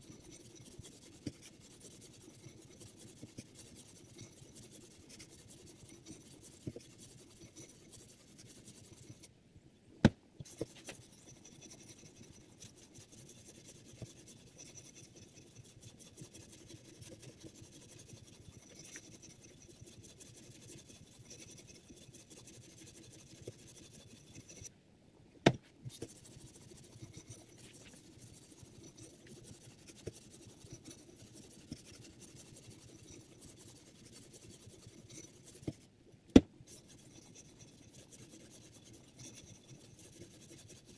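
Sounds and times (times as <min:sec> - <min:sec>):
sharpening stone scraping knife: 0:00.0 - 0:09.3, 0:10.5 - 0:24.7, 0:25.9 - 0:35.8, 0:36.7 - 0:40.9.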